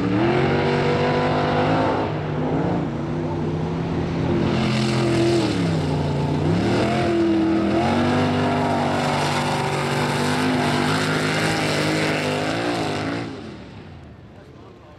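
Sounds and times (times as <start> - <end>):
truck engine revving high: 0.0 - 13.9.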